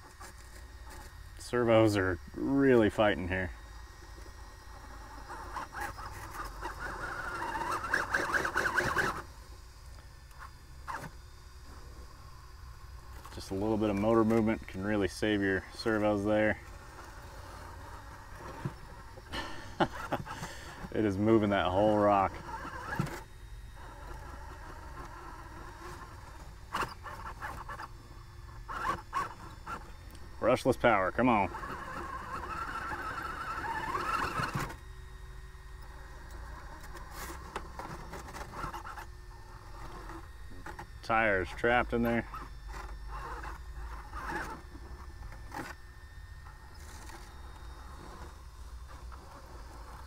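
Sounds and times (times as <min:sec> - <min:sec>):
rc car electric motor whine: 0:00.0 - 0:50.0.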